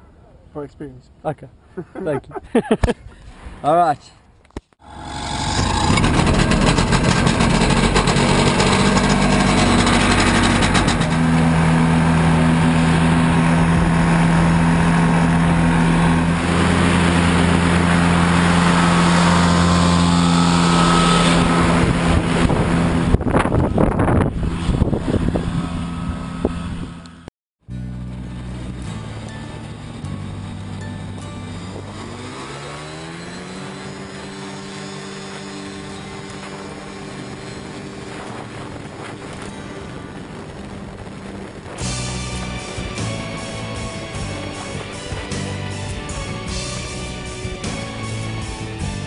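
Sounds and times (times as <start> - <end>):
ultralight aircraft engine and propeller: 4.8 - 49.0.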